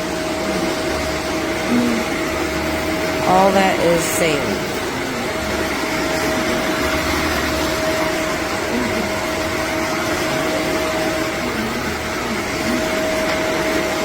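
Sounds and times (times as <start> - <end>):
upright vacuum cleaner running: 0.0 - 14.0.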